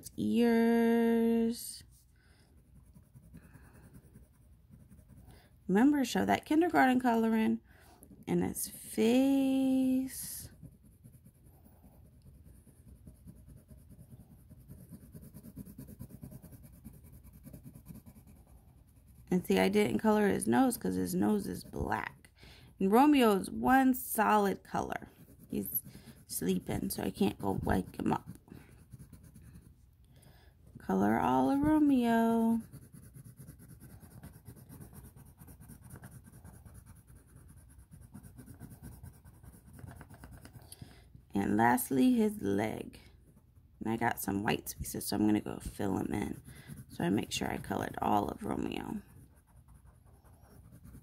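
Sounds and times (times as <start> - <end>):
colored pencil scratching on paper: 0.0 - 51.0.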